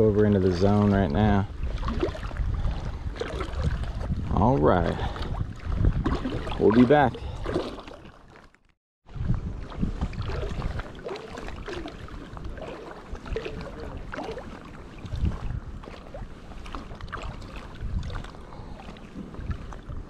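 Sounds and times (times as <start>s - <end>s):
wind buffeting microphone: 0.0s - 7.7s, 9.1s - 20.0s
water lapping and splashing: 0.0s - 20.0s.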